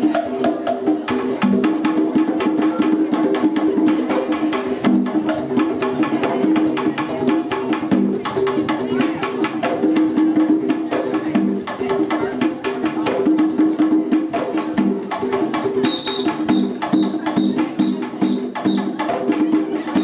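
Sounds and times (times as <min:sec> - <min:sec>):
drum ensemble playing: 0:00.0 - 0:20.0.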